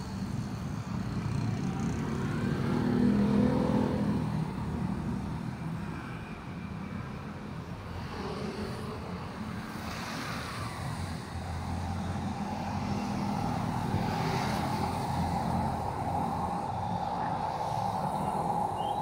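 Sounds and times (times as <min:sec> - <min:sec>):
busy street traffic: 0:00.0 - 0:19.0.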